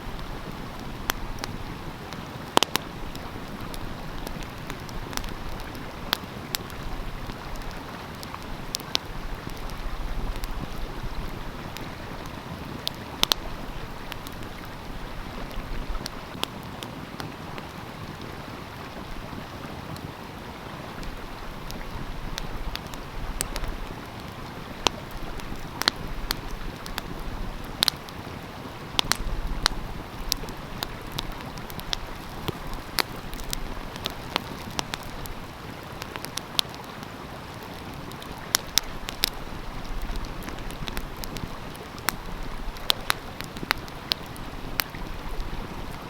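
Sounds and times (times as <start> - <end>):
stream flowing: 0.0 - 46.0
wood fire crackling and popping: 0.0 - 46.0.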